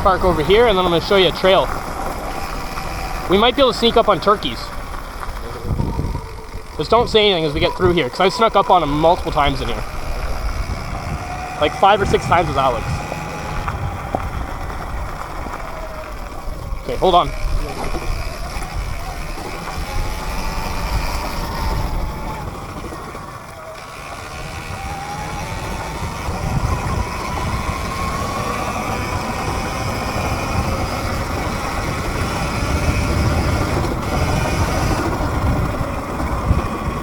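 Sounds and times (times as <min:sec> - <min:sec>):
dirt bike motor whine: 0:00.0 - 0:37.0.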